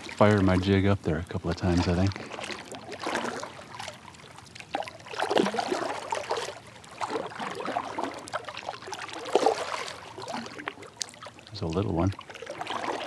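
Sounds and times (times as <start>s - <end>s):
paddle splashing in water: 0.0s - 13.0s
water dripping: 0.0s - 13.0s.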